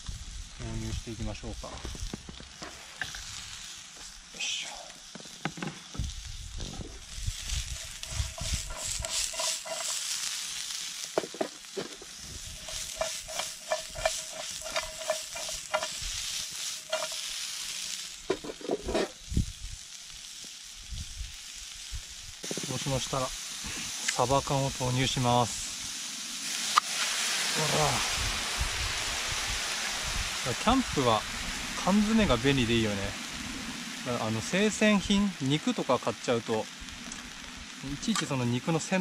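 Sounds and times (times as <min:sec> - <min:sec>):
vegetables sizzling in a frying pan: 0:00.0 - 0:39.0.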